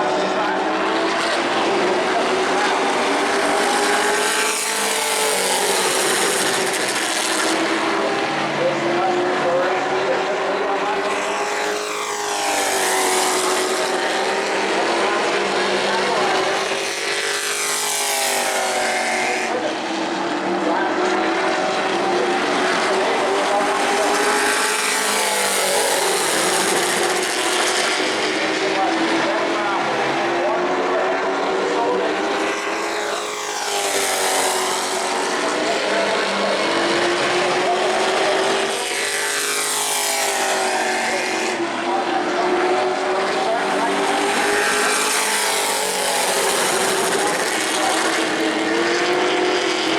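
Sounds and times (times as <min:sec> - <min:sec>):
race truck engines passing by: 0:00.0 - 0:49.9.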